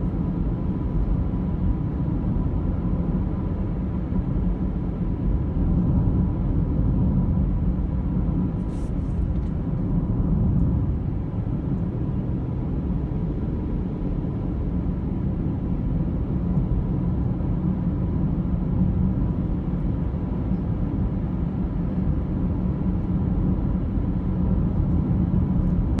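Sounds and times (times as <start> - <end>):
car road rumble from inside cabin: 0.0 - 26.0.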